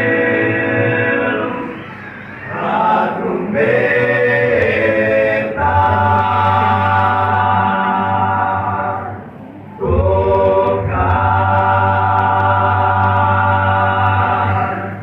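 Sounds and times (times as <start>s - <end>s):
vocal quartet singing a cappella: 0.0s - 15.0s.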